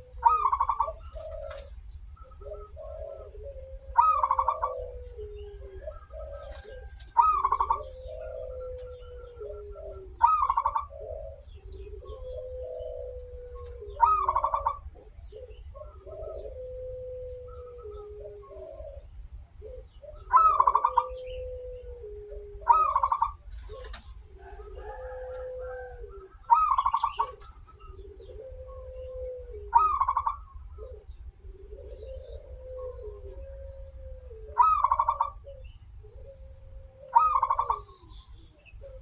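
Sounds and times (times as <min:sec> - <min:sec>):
dove cooing: 0:00.0 - 0:39.0
low steady hum: 0:00.0 - 0:39.0.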